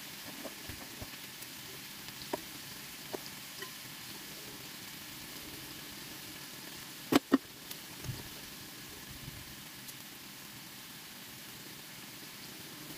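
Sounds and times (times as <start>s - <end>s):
small pops of frying: 0.0s - 5.5s, 6.1s - 12.9s
chicken sizzling in a pan: 0.0s - 12.9s.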